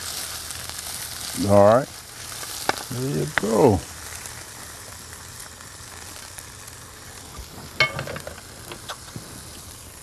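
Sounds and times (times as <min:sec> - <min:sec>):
frying sizzle: 0:00.0 - 0:10.0.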